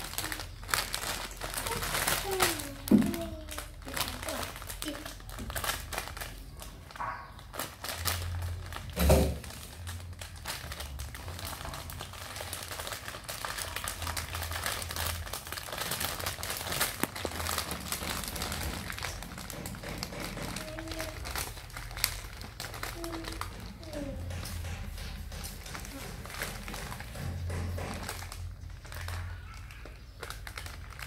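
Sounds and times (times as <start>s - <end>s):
plastic crinkling: 0.0s - 31.0s.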